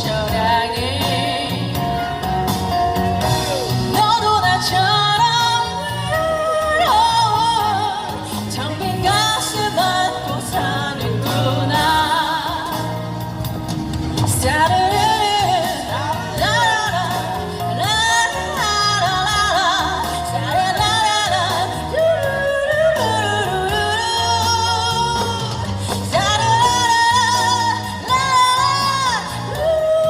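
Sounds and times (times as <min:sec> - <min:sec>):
live pop ballad: 0:00.0 - 0:30.0.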